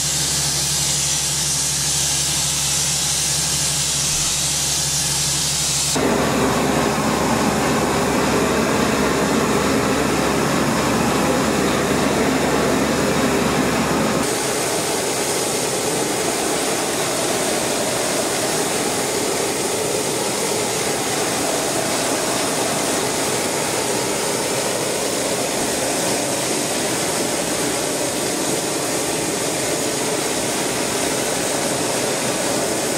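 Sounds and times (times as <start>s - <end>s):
spray gun gas jet hissing: 0.0s - 32.9s.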